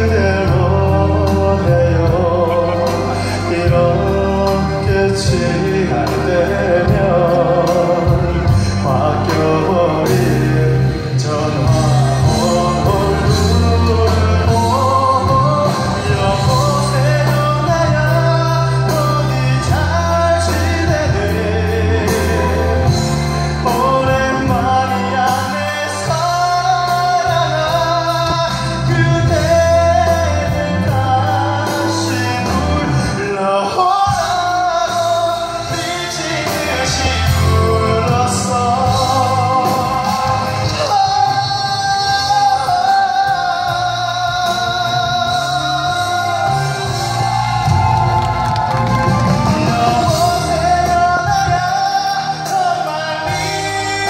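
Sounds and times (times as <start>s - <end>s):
instrumental accompaniment: 0.0s - 54.0s
man singing a pop ballad: 0.0s - 54.0s.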